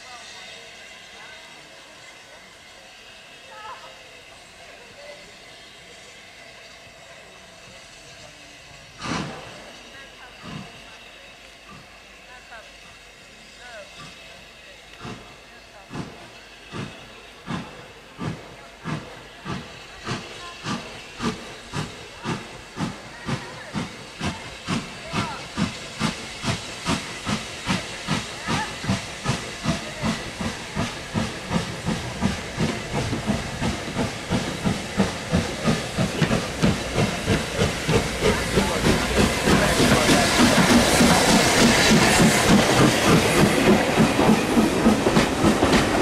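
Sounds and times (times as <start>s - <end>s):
steam locomotive exhaust chuffs: 0.0s - 46.0s.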